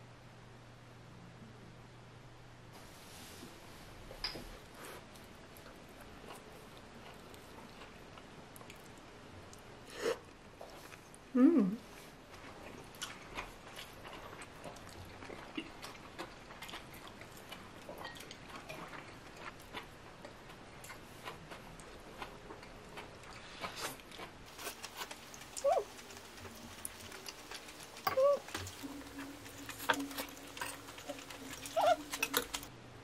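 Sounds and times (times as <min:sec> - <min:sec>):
chewing spaghetti: 0:04.9 - 0:11.2, 0:11.9 - 0:32.7.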